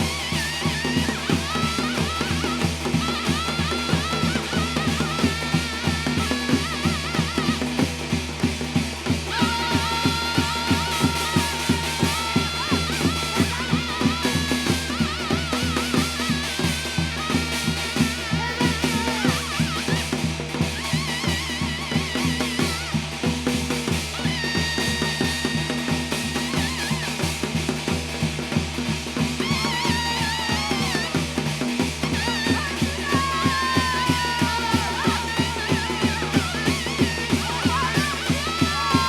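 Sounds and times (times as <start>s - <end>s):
fast steady drumming: 0.0s - 39.0s.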